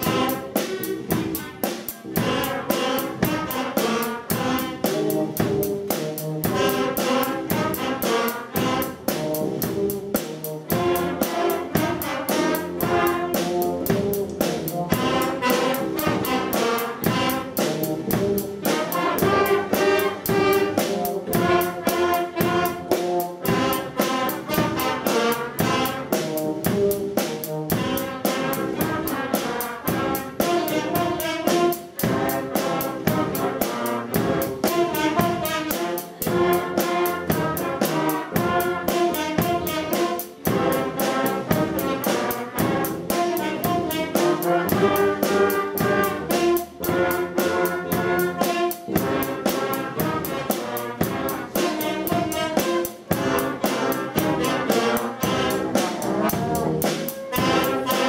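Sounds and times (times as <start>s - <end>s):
steady drum beat: 0.0s - 58.0s
wind band playing a tune: 0.0s - 58.0s.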